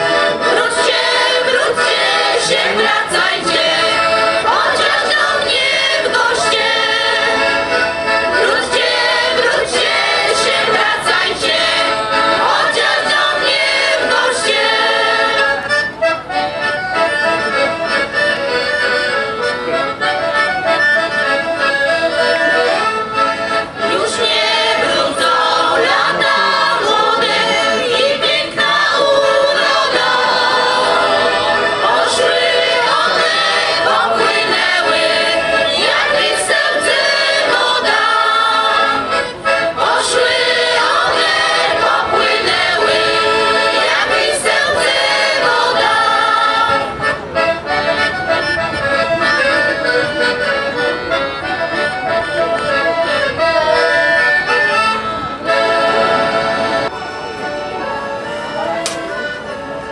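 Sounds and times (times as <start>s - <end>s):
choir singing folk song: 0.0s - 48.5s, 49.2s - 59.9s
piano accordion: 0.0s - 59.9s.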